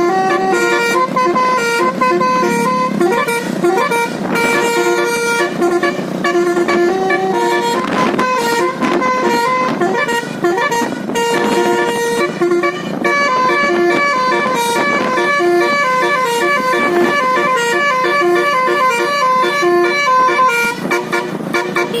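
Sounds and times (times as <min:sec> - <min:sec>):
musical bus horn melody: 0:00.0 - 0:22.0.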